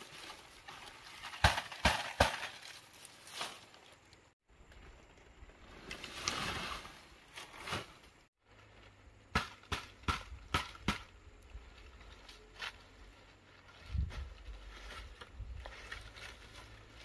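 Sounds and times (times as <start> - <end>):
dry palm leaves rustling: 0.0 - 17.0.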